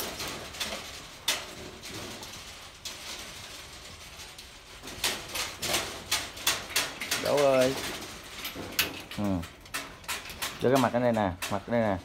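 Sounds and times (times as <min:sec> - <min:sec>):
metal dog cage rattling: 0:00.0 - 0:12.0.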